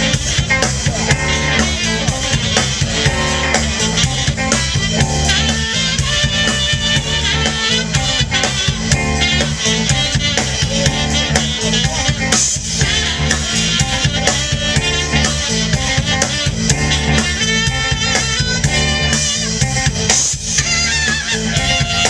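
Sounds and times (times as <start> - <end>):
drum kit: 0.0 - 22.0
electric bass: 0.0 - 22.0
tenor saxophone solo: 0.0 - 22.0.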